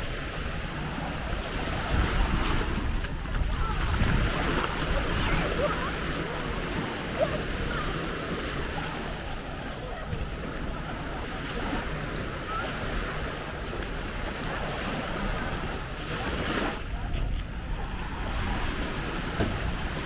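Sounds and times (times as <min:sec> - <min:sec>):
wind rumbling on microphone: 0:00.0 - 0:12.6, 0:13.2 - 0:20.0
sea waves washing onto beach: 0:00.0 - 0:20.0.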